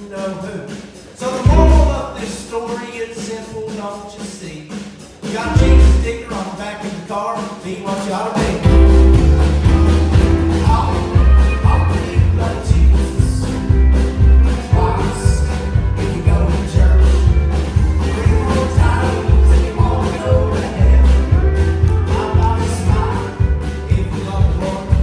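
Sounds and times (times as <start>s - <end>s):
country song with heavy bass: 1.2s - 3.2s, 5.3s - 25.0s.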